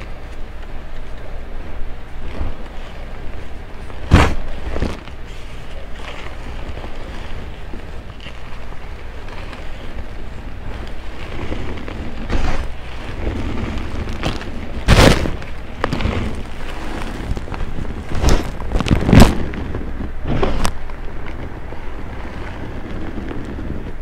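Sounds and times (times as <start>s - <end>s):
sharp chalk crunches: 0.0s - 23.9s
chalk crumbling gritty hiss: 0.0s - 24.0s.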